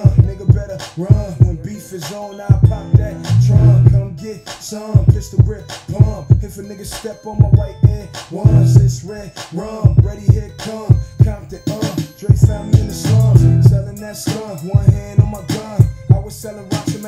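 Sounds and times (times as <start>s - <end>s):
rapping over heavy beat: 0.0s - 17.0s.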